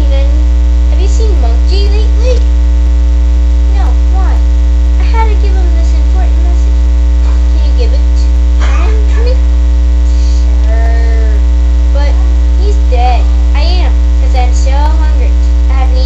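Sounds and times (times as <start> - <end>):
high-pitched voice: 0.0 - 2.4, 3.7 - 4.4, 5.0 - 9.4, 10.1 - 11.4, 12.0 - 16.0
electrical mains hum: 0.0 - 16.0.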